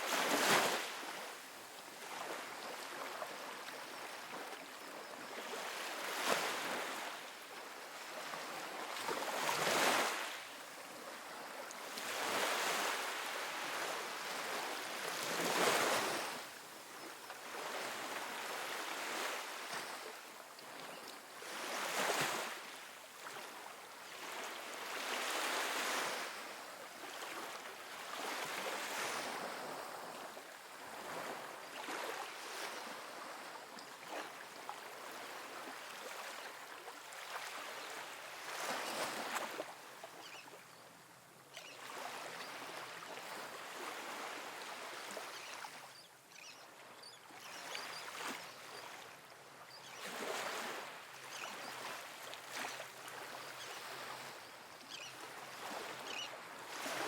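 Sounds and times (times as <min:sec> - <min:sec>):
waves washing up a beach: 0:00.0 - 0:57.0.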